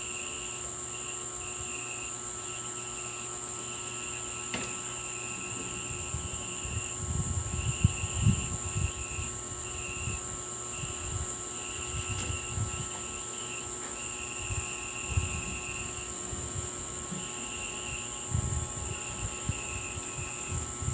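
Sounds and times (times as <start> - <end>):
crickets chirring: 0.0 - 20.9
steady high whine: 0.0 - 20.9.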